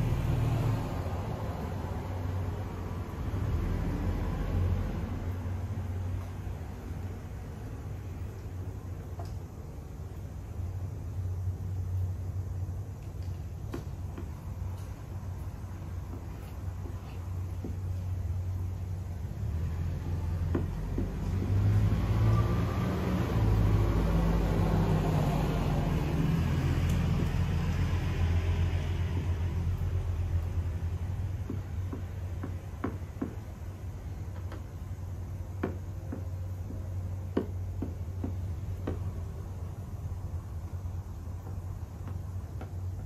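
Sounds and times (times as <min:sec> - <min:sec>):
road vehicle passing: 0:00.0 - 0:43.0.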